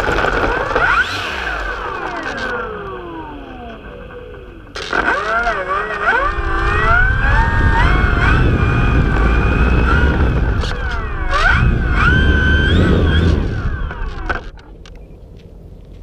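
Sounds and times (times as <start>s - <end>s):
electric motor and propeller whine: 0.0s - 16.0s
low rumble of taxiing on gravel: 0.0s - 16.0s.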